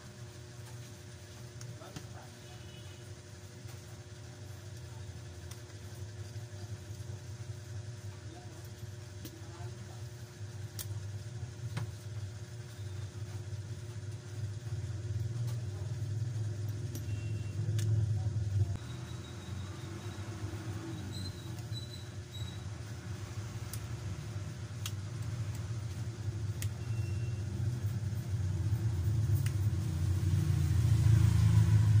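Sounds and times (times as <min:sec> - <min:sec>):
low engine-like rumble: 0:04.2 - 0:32.0.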